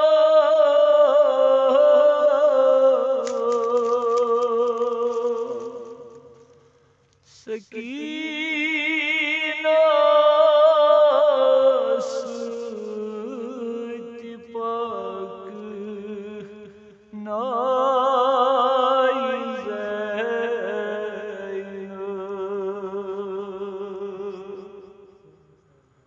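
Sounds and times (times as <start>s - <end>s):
man chanting a lament: 0.0s - 5.8s, 7.3s - 24.7s.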